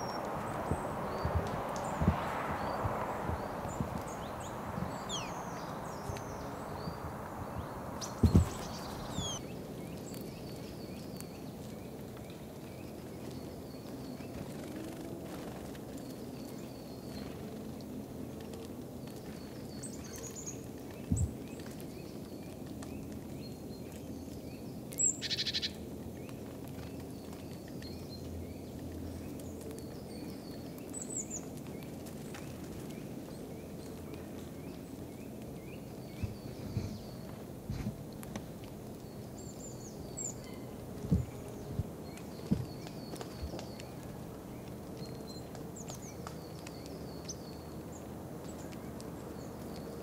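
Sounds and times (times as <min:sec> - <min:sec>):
low background noise: 0:00.0 - 0:50.0
small birds chirping: 0:00.0 - 0:50.0.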